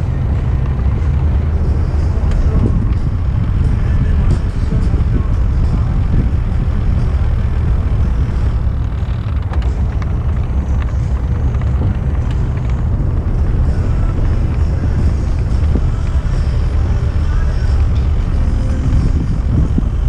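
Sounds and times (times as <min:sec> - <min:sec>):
tyres rumbling on pavement: 0:00.0 - 0:20.0.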